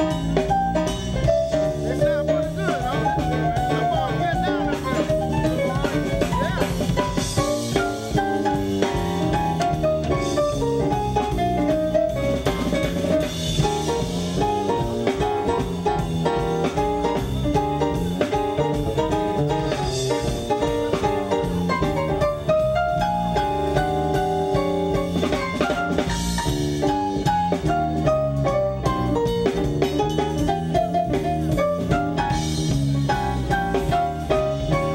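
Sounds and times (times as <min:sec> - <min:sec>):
drum kit beat: 0:00.0 - 0:34.9
electronic keyboard chords: 0:00.0 - 0:34.9
live blues band: 0:00.0 - 0:34.9.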